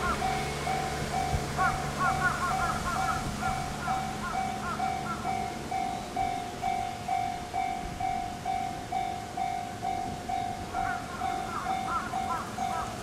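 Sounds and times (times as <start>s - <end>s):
crossing warning bell ringing: 0.0s - 13.0s.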